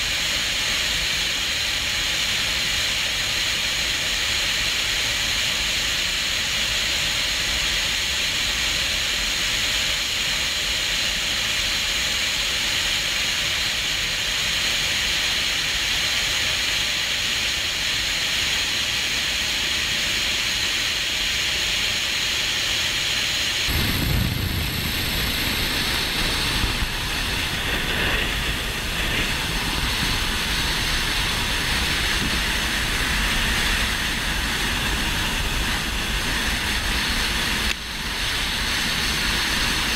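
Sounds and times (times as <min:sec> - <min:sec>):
helicopter engine and rotor rush: 0:00.0 - 0:39.9.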